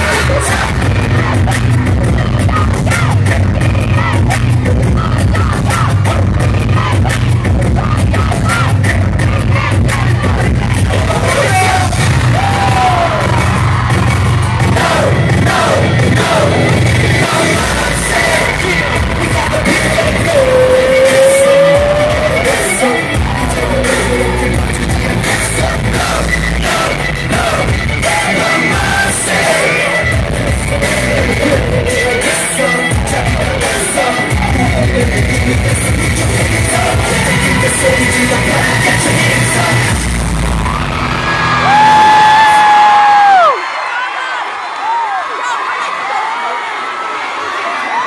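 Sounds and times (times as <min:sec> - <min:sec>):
live pop music singing and rapping: 0:00.0 - 0:43.6.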